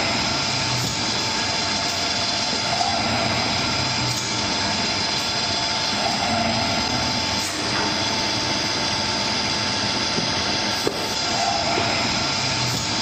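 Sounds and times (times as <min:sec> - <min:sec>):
machine hum with high tone: 0:00.0 - 0:13.0.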